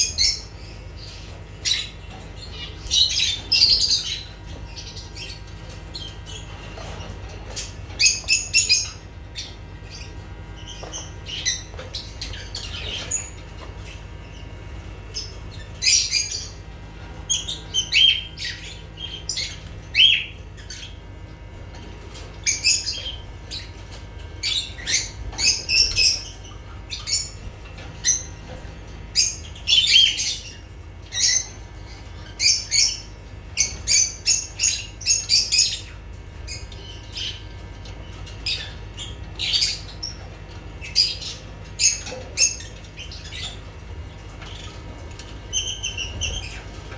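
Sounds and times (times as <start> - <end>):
lovebirds calling: 0.0 - 46.9
steady low hum: 0.0 - 46.9.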